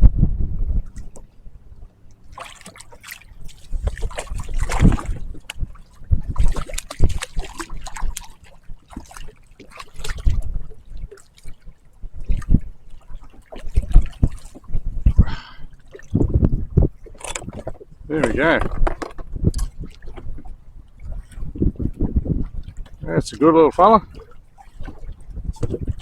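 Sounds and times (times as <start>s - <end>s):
water splashing around kayak: 0.1s - 26.0s.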